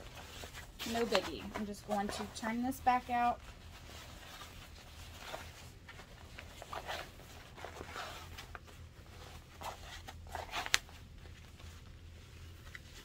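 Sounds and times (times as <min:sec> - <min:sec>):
fabric rustling and crinkling: 0:00.0 - 0:13.0
low steady hum: 0:00.0 - 0:13.0.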